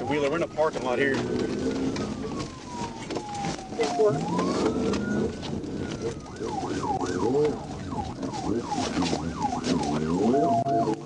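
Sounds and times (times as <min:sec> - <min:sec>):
car engine: 0:00.0 - 0:11.0
police siren yelping: 0:00.0 - 0:11.0
steady siren tone: 0:00.0 - 0:11.0.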